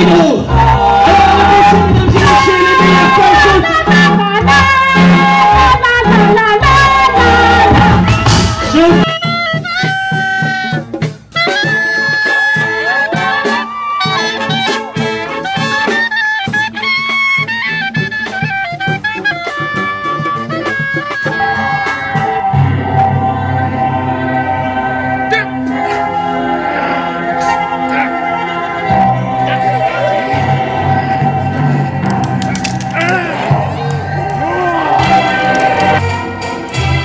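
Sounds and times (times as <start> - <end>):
wind band playing lively tune: 0.0 - 37.0.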